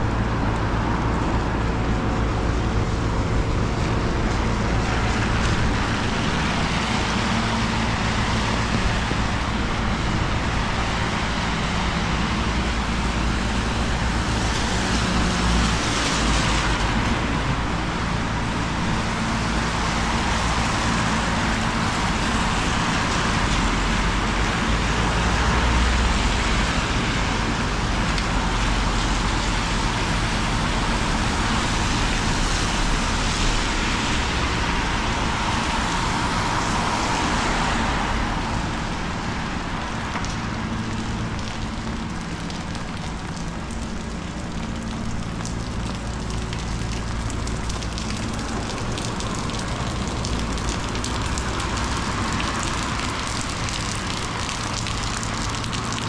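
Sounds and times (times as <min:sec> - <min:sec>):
rain on a street: 0:00.0 - 0:56.0
wind: 0:00.0 - 0:56.0
wind rumbling on microphone: 0:00.0 - 0:56.0.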